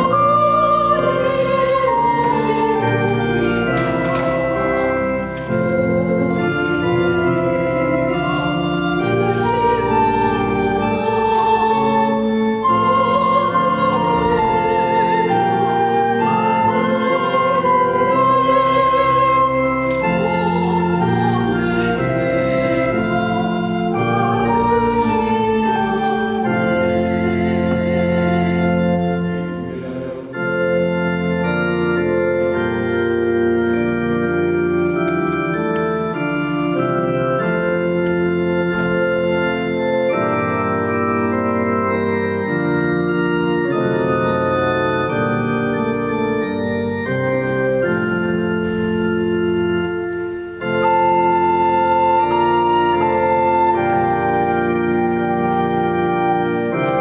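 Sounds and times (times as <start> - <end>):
electronic organ chords: 0.0 - 57.0
recorder melody: 0.0 - 57.0.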